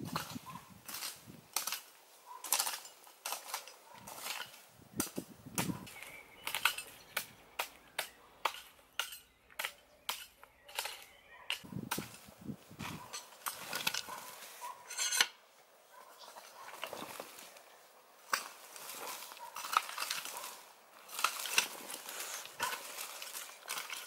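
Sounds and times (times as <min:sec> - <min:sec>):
hoe chopping soil: 0:00.0 - 0:15.4, 0:18.3 - 0:24.0.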